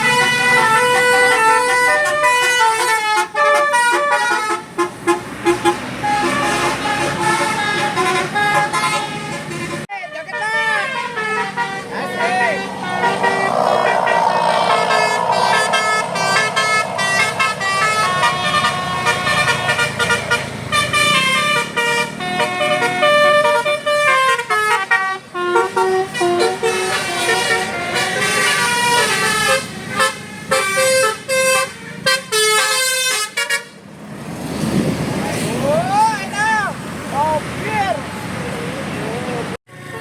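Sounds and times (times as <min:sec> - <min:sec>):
bus horn playing a tune: 0:00.0 - 0:14.6, 0:15.2 - 0:33.8.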